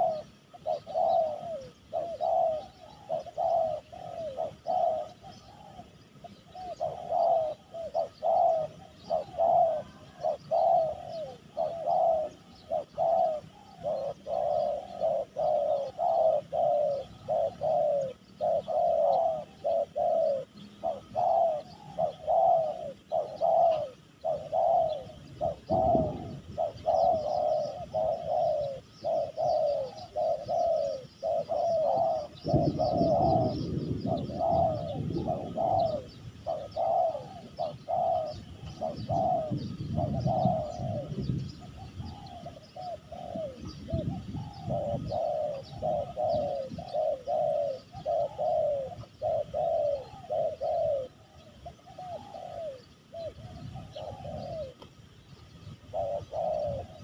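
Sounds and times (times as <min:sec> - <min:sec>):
doves cooing: 0:00.0 - 0:57.0
small birds chirping: 0:00.0 - 0:57.0.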